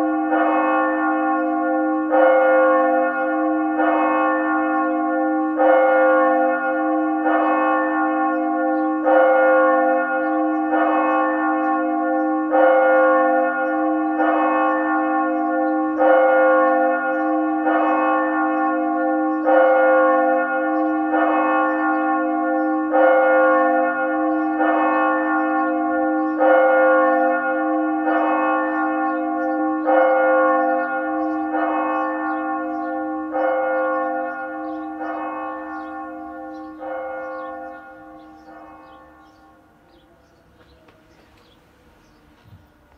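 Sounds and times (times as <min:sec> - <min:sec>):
church bell tolling: 0:00.0 - 0:42.9.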